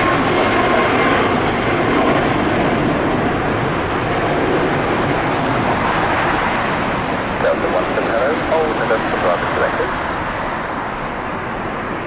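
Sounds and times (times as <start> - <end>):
jet engines at climb thrust: 0.0 - 12.0.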